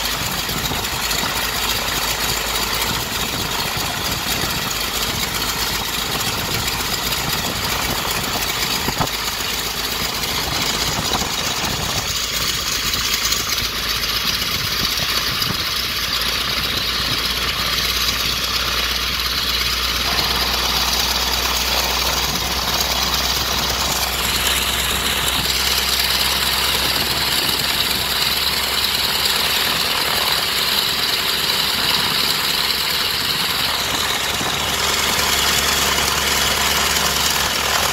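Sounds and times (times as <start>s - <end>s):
radial aircraft engine idling: 0.0s - 37.9s.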